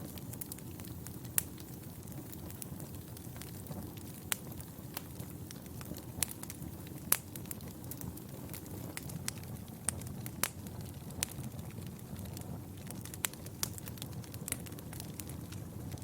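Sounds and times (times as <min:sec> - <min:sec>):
fire crackling in fireplace: 0:00.0 - 0:16.0.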